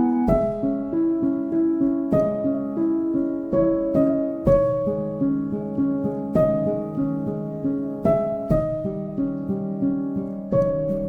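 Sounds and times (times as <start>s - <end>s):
slow gentle melody: 0.0s - 11.0s.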